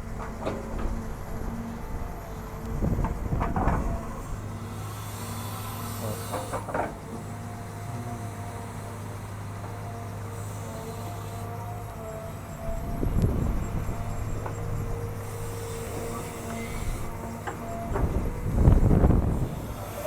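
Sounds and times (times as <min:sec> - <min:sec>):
excavator diesel engine humming: 0:00.0 - 0:20.0.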